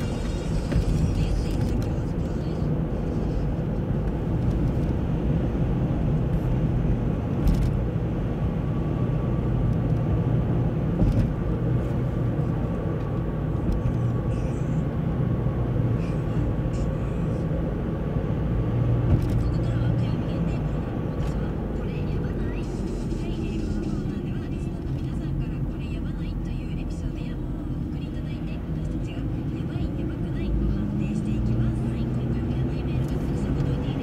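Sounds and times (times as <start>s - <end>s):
road and engine rumble: 0.0s - 34.0s.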